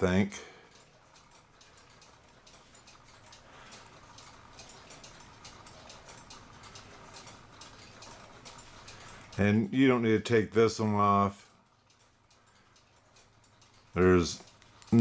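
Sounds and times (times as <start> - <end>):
mechanical clock ticking: 0.0 - 15.0.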